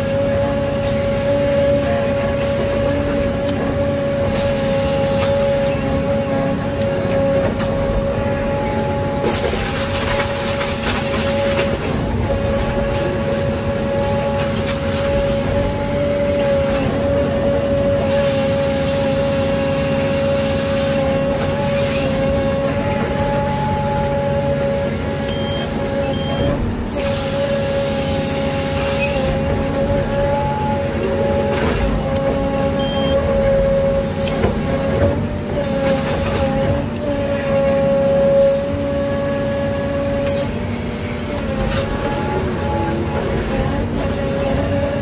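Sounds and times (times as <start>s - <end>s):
forestry harvester whining: 0.0s - 45.0s.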